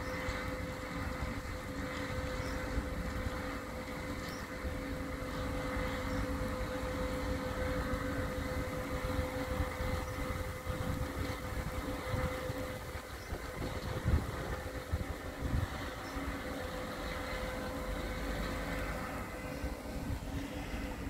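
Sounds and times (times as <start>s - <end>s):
engine drone over water: 0.0s - 21.0s.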